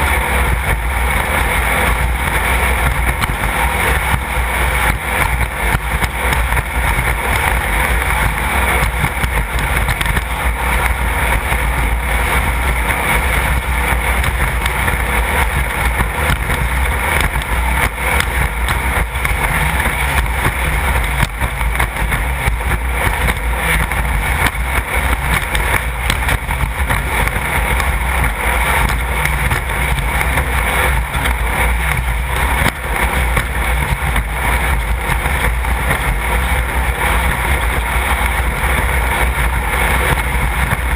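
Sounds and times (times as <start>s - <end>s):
race car engine at speed: 0.0s - 40.9s
wind noise: 0.0s - 40.9s.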